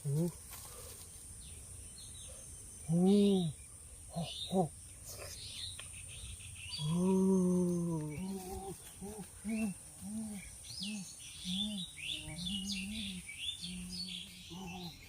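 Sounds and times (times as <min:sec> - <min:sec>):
birds chirping and twittering: 0:00.0 - 0:15.0.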